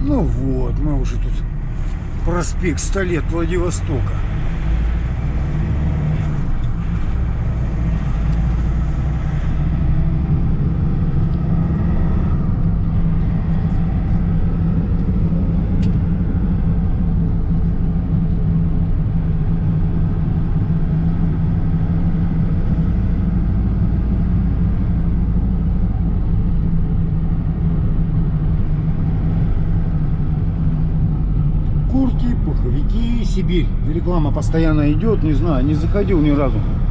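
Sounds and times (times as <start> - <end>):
engine and road noise in a cab: 0.0 - 36.9.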